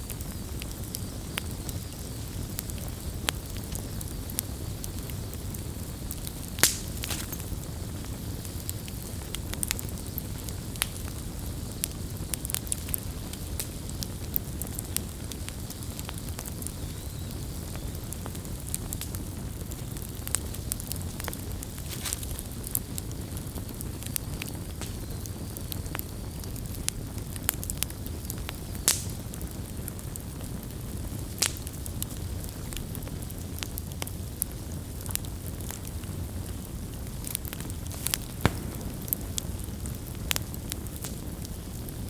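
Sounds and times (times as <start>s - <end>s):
bonfire burning and crackling: 0.0s - 42.0s.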